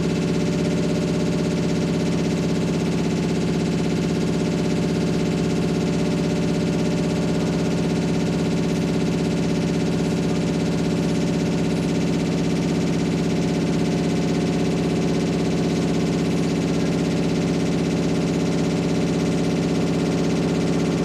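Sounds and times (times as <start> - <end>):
washing machine drone: 0.0 - 21.0.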